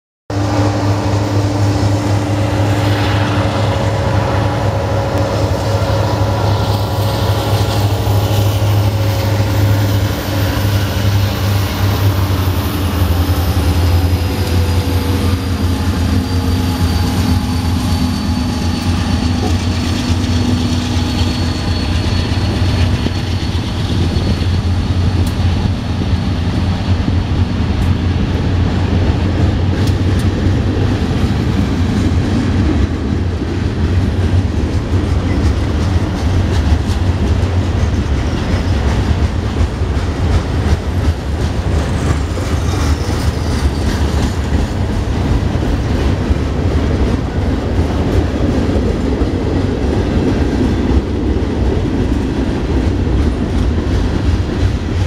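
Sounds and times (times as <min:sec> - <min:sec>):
diesel locomotives droning: 0:00.3 - 0:55.0.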